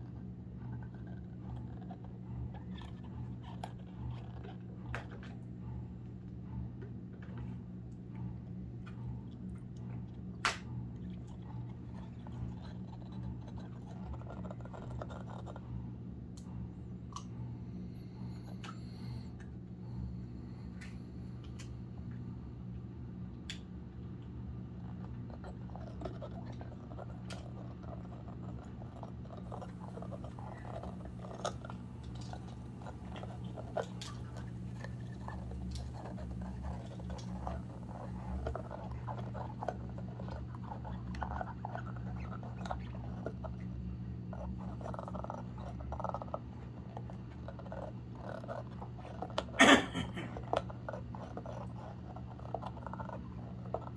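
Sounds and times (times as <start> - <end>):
dog gnawing rubber toy: 0.0 - 17.3, 23.8 - 53.9
steady low hum: 0.0 - 53.9.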